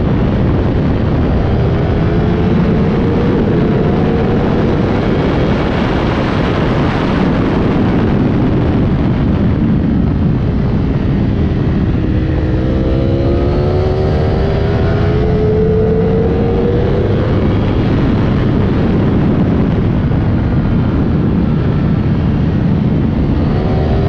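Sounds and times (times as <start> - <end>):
heavy wind rush: 0.0 - 24.0
motorcycle engine accelerating: 0.0 - 24.0.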